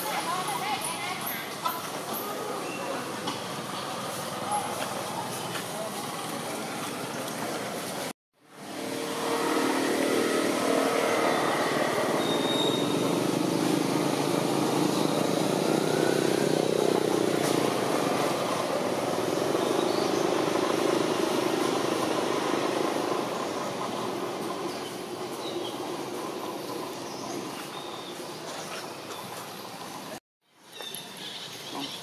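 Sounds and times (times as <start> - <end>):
road traffic passing: 0.0 - 32.0.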